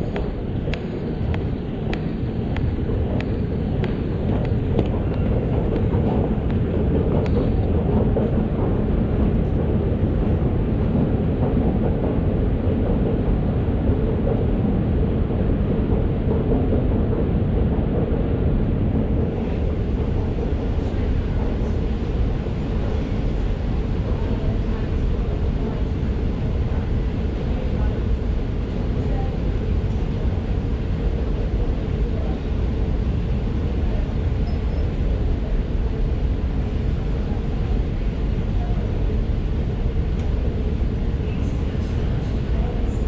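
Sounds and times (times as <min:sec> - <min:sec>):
low ambient rumble: 0:00.0 - 0:43.0.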